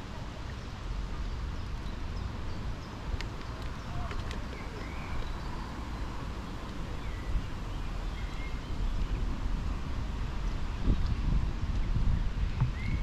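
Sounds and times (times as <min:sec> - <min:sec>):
wind buffeting microphone: 0:01.0 - 0:13.0.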